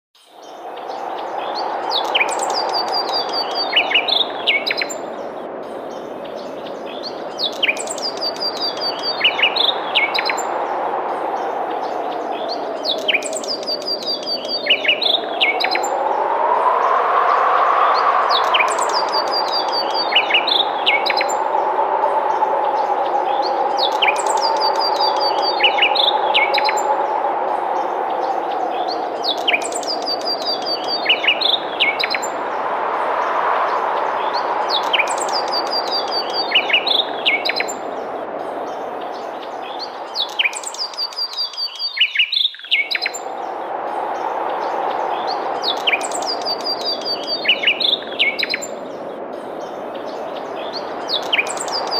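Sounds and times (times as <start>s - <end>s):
songbird singing: 0.2s - 51.9s
wind rushing with low whistle: 0.3s - 51.9s.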